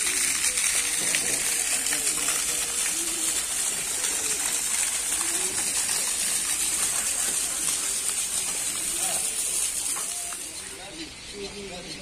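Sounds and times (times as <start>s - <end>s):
pigeons cooing: 0.0s - 10.6s
fountain water splashing into pond: 0.0s - 10.8s.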